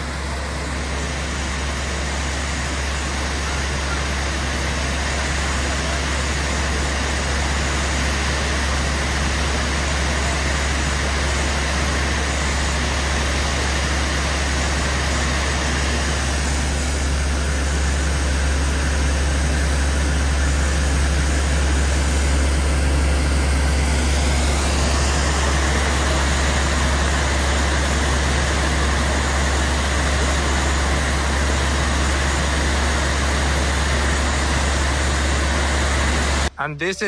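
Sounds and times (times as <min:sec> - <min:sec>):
truck engine droning: 0:00.0 - 0:37.0.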